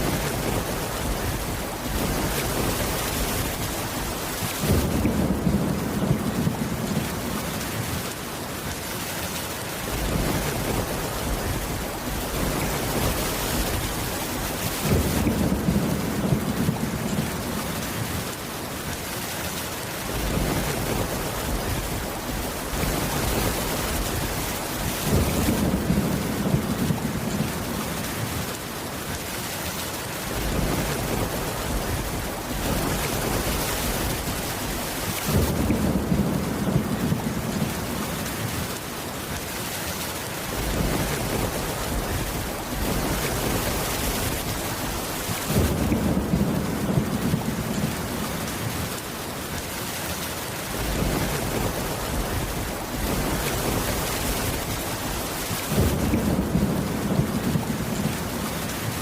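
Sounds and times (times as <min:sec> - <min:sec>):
low thunder rumble: 0:00.0 - 0:08.2, 0:09.9 - 0:18.3, 0:20.1 - 0:28.6, 0:30.3 - 0:38.8, 0:40.5 - 0:49.0, 0:50.7 - 0:59.0
heavy rain on a roof: 0:00.0 - 0:59.0.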